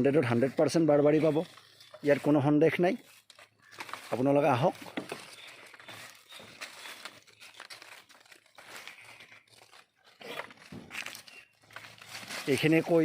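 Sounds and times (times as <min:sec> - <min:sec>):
faint rustling and crackling: 0:00.1 - 0:13.0.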